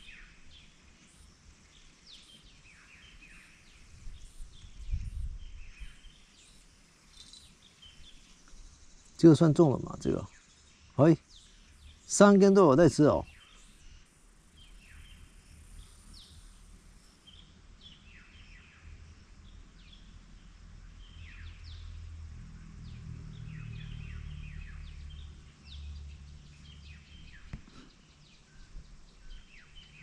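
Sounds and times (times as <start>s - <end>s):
birds chirping: 0.0s - 22.0s, 22.9s - 30.0s.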